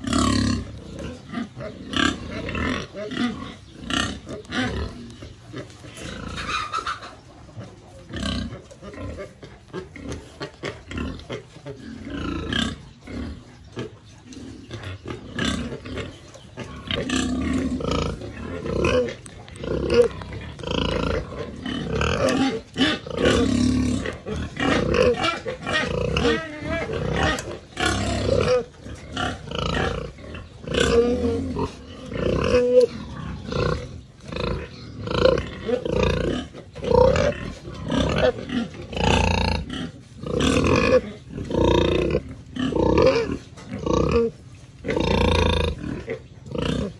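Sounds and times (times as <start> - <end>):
pigs screaming grunts: 0.0 - 46.9.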